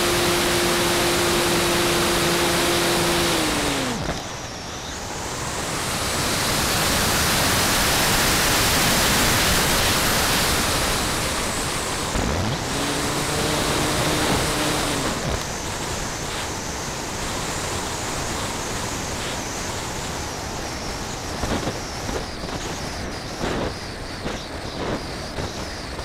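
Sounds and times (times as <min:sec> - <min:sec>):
model airplane propeller motor: 0:00.0 - 0:26.0
rushing airflow: 0:00.0 - 0:26.0.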